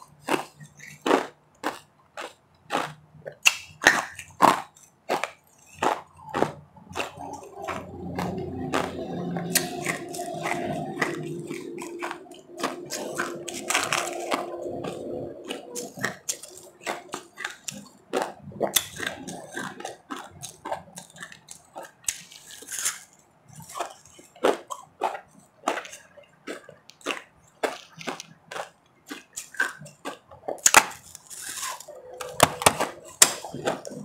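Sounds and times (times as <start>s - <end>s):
chewing crunchy ice: 0.0s - 34.0s.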